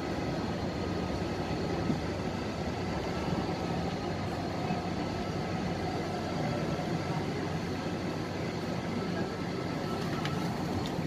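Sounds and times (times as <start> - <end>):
faint train whine: 0.0 - 11.0
train running rumble: 0.0 - 11.0.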